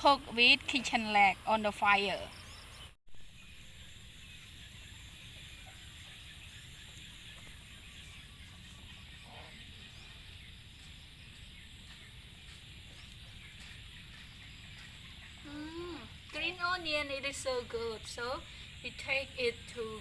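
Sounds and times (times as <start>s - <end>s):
high insect drone: 0.4s - 20.0s.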